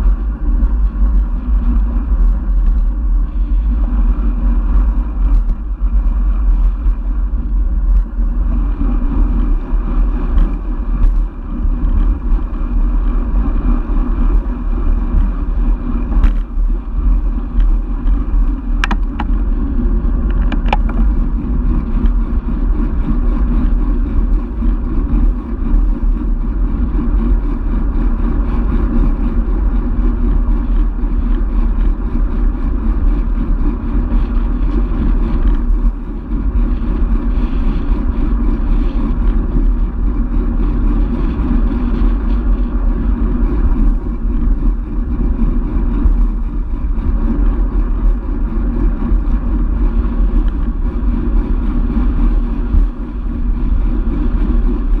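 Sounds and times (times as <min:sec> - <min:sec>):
tyres humming on asphalt: 0:00.0 - 0:55.0
wind rushing over microphone: 0:00.0 - 0:55.0.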